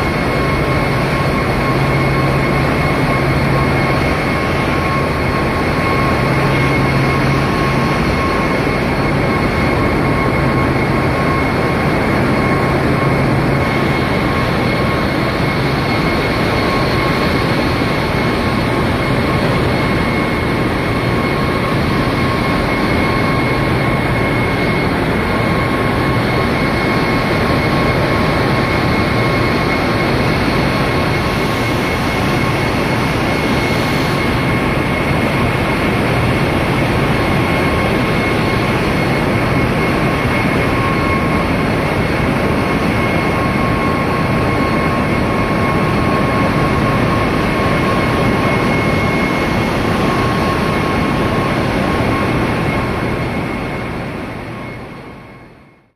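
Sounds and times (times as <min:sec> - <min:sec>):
engine room machinery noise: 0:00.0 - 0:55.9
high-pitched whine: 0:00.0 - 0:55.9.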